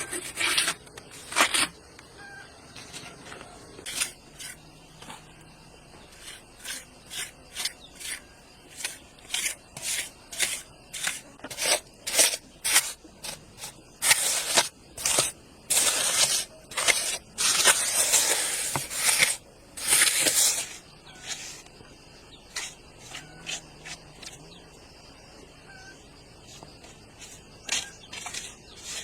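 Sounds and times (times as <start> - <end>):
scraping strokes: 0.0 - 1.8, 2.8 - 5.3, 6.0 - 24.5, 26.4 - 29.0.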